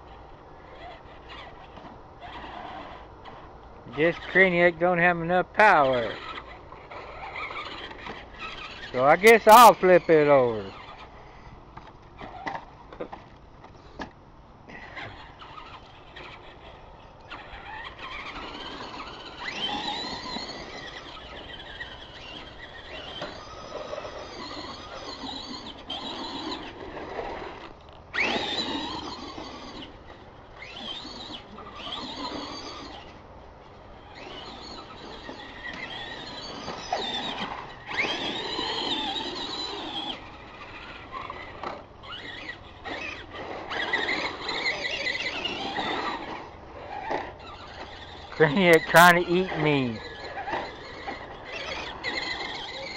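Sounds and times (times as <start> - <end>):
toy truck electric motors whining: 0.0 - 4.8, 5.4 - 14.1, 14.7 - 52.9.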